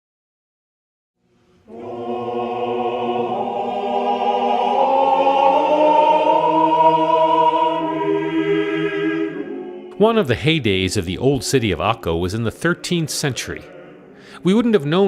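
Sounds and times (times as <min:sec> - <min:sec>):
choral voices holding chords: 0:01.2 - 0:15.0.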